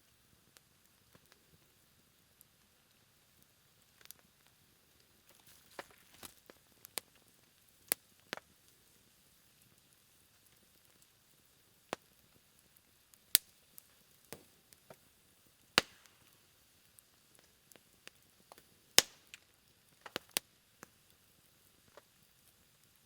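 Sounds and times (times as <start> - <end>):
campfire crackling and popping: 0.0 - 23.0
faint steady hiss: 0.0 - 23.0.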